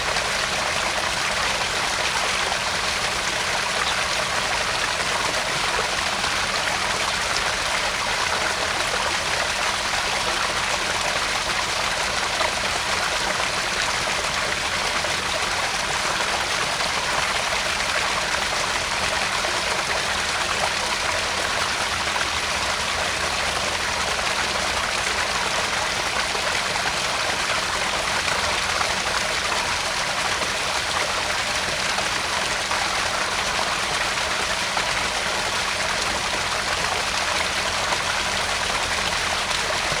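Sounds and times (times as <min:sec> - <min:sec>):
pond waterfall splashing: 0:00.0 - 0:40.0.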